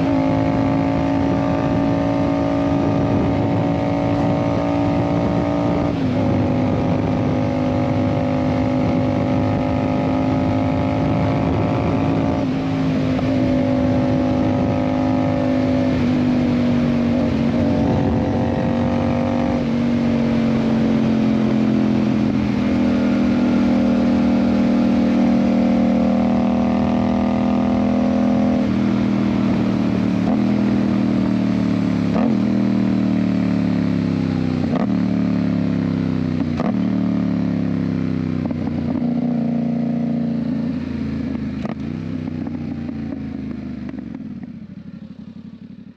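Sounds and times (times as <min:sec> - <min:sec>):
road and wind noise: 0:00.0 - 0:45.9.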